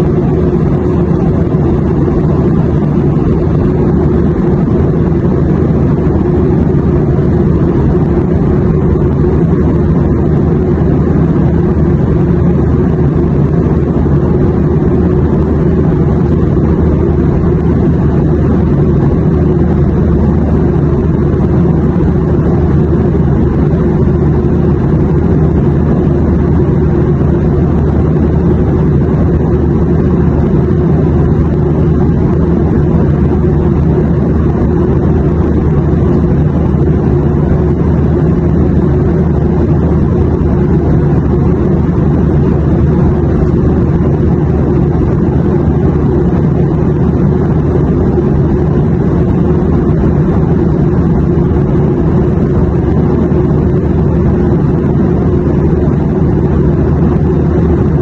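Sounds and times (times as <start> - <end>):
airliner cabin drone: 0.0 - 58.0
faint steady hum: 0.0 - 58.0.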